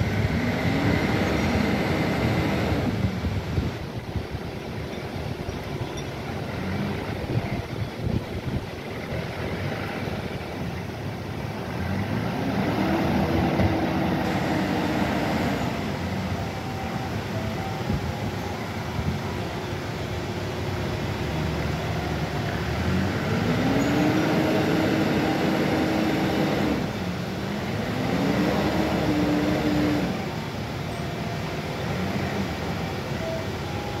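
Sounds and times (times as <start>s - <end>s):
forklift engine revving: 0.0s - 3.5s, 6.3s - 34.0s.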